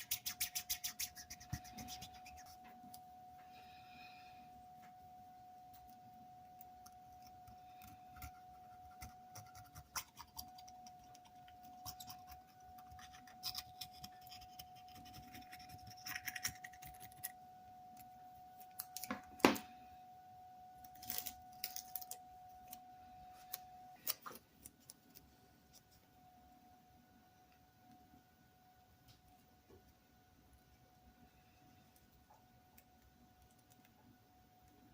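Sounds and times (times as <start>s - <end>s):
faint steady whine: 0.0s - 34.9s.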